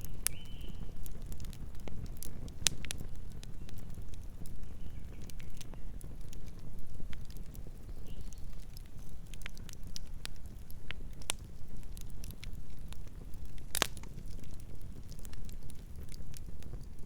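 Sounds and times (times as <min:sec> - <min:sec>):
campfire crackling: 0:00.0 - 0:17.0
low rumble of flames: 0:00.0 - 0:17.0.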